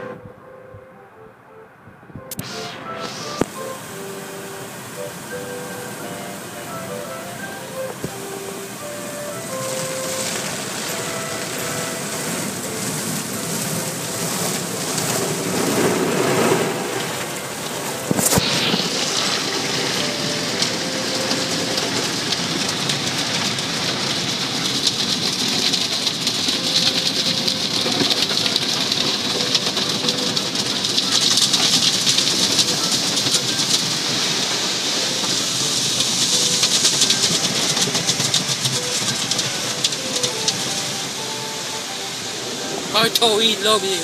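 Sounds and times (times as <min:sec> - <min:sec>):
water spraying on car: 0:02.5 - 0:44.0.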